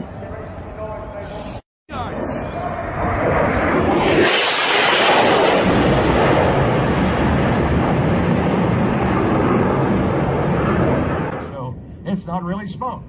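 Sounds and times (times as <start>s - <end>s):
fighter jet roar: 0.0s - 11.6s.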